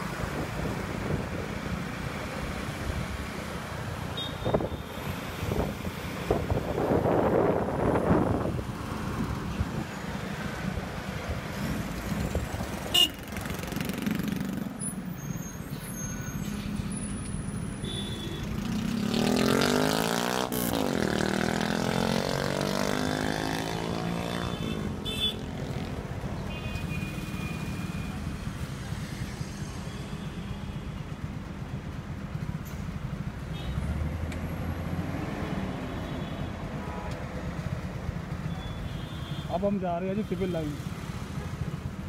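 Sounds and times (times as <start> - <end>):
passing vehicle: 0.0 - 17.8, 18.4 - 38.5.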